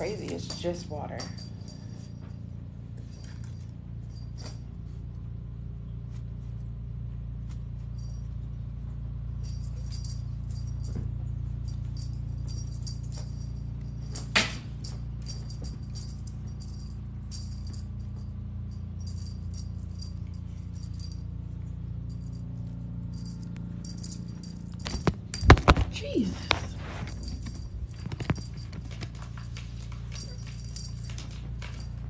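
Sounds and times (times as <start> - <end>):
small bells jingling: 0.0 - 5.0, 7.8 - 32.0
steady low hum: 0.0 - 32.0.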